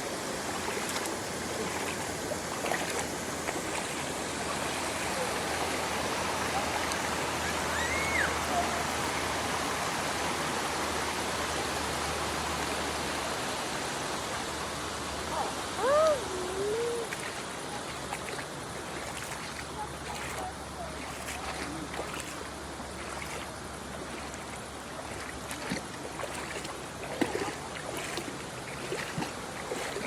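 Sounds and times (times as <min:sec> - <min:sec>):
river babbling: 0:00.0 - 0:30.0.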